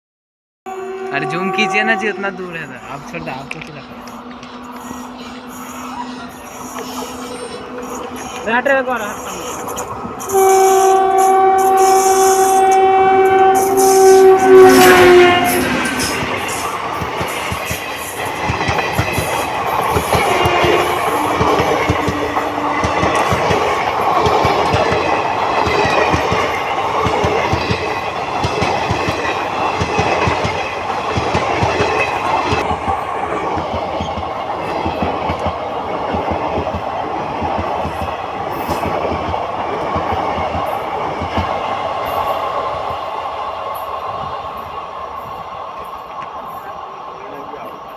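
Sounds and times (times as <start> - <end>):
train wheels clattering over rails: 6.6 - 47.8.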